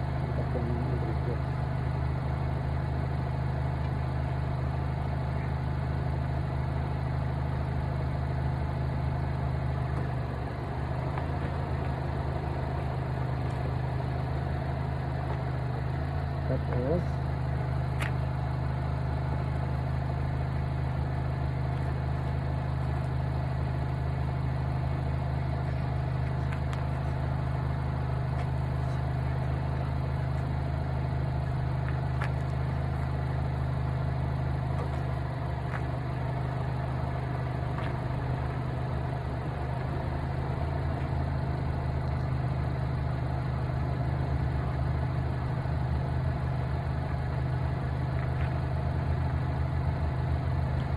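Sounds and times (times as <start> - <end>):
engine idling: 0.0 - 50.9.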